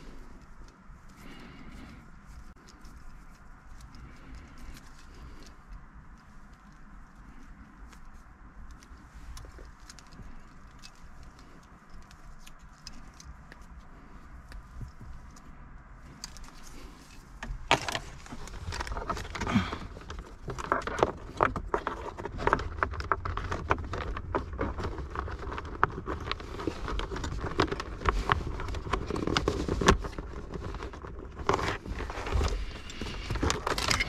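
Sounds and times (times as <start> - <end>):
cables and connectors rustling clicking: 0.0 - 34.0.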